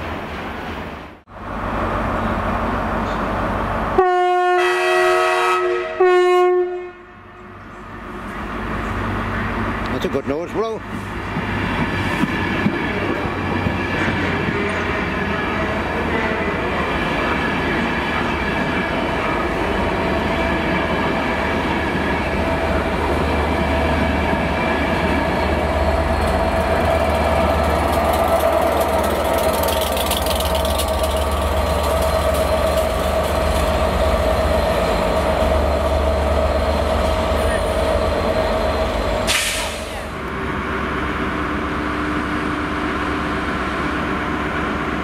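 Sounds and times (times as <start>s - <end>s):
diesel locomotive engine drone: 0.0s - 45.0s
train coaches rumbling on rails: 0.0s - 45.0s.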